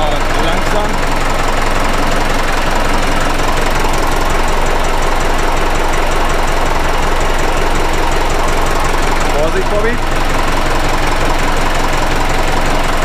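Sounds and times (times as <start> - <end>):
tractor diesel engine chugging: 0.0 - 13.0.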